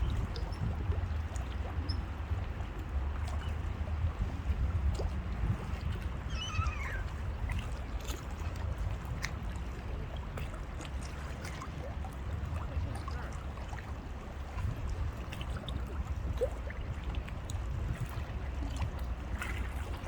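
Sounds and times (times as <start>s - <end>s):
moving river water: 0.0s - 20.0s.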